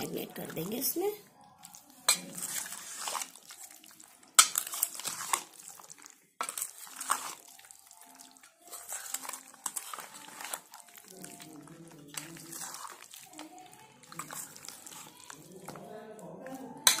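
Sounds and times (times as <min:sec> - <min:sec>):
spoon scraping metal bowl: 0:02.0 - 0:17.0.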